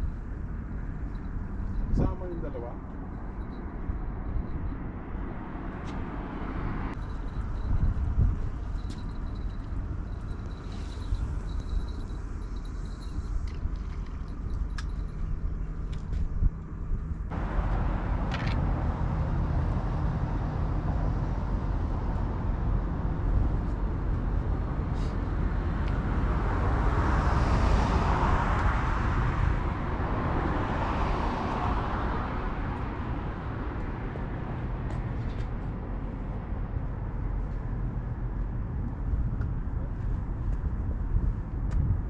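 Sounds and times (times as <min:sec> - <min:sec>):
distant traffic passing: 0:00.0 - 0:42.0
outdoor background rumble: 0:00.0 - 0:42.0.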